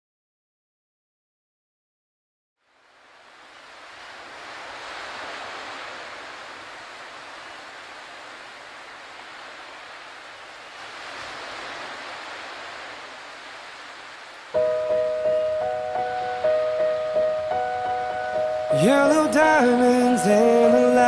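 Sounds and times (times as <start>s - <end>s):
sea waves rushing ashore: 2.6s - 21.0s.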